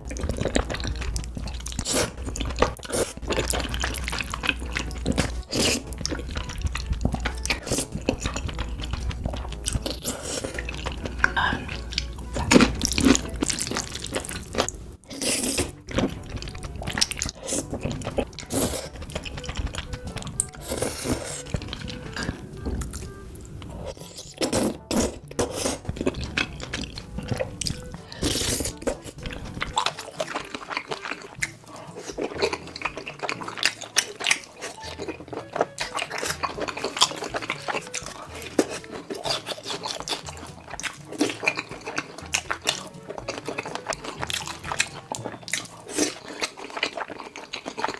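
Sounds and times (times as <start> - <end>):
background music: 0.0 - 47.9
chewing and biting: 0.0 - 47.9.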